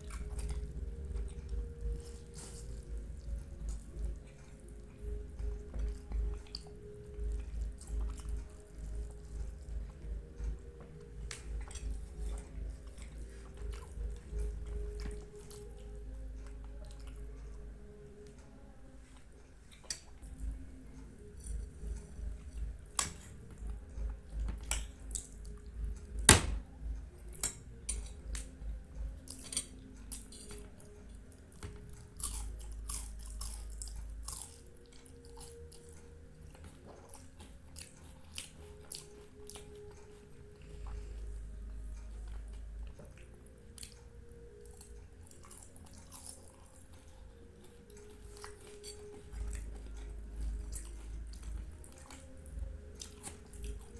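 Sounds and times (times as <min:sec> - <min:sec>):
wet chewing: 0:00.0 - 0:18.4, 0:19.1 - 0:53.9.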